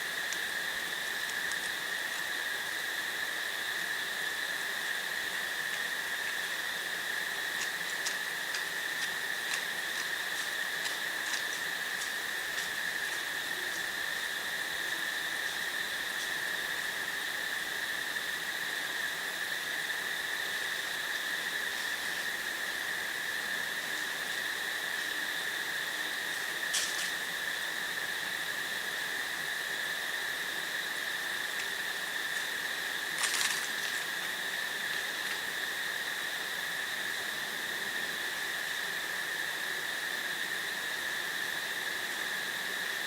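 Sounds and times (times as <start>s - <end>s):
crickets trilling: 0.0s - 43.0s.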